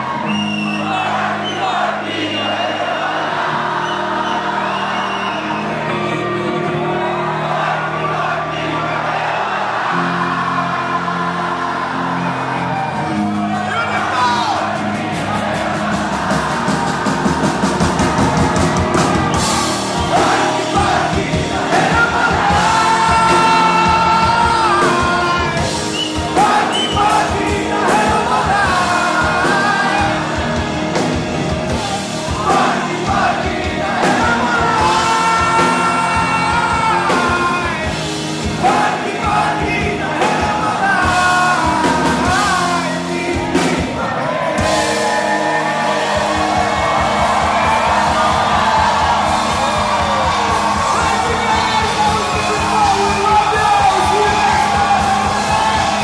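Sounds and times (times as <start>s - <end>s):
live rock band playing: 0.0s - 56.0s
person singing: 9.9s - 56.0s.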